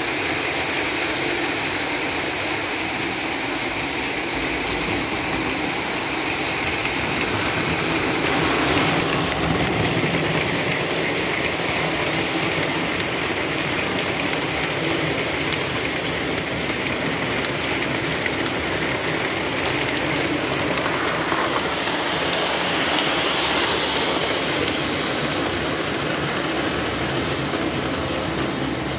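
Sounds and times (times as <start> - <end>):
model train running on track: 0.0 - 28.9.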